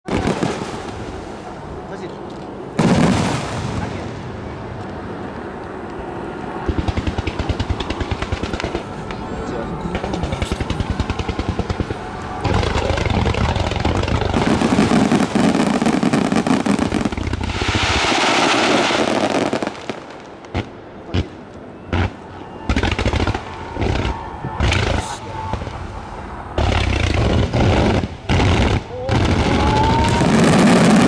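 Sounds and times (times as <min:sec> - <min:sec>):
fireworks bangs and crackle: 0:00.1 - 0:01.5, 0:02.8 - 0:04.8, 0:06.6 - 0:31.0.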